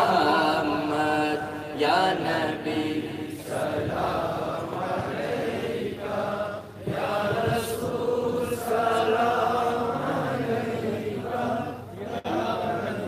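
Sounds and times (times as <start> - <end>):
person chanting devotional song: 0.0 - 13.0.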